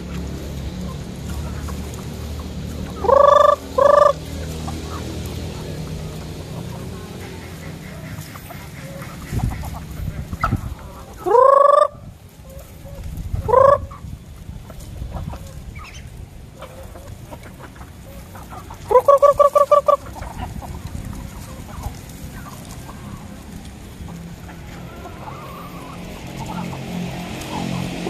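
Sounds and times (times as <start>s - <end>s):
chickens clucking: 0.0s - 28.0s
chickens squawking: 0.0s - 28.0s.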